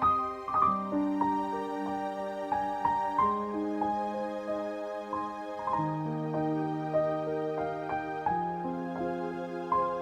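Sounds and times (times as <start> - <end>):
slow instrumental music: 0.0 - 10.0.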